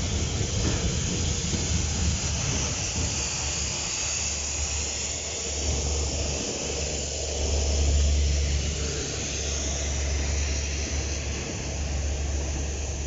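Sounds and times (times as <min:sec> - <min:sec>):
diesel locomotive engine: 0:00.0 - 0:13.0
rumble of tank wagons: 0:00.0 - 0:13.0.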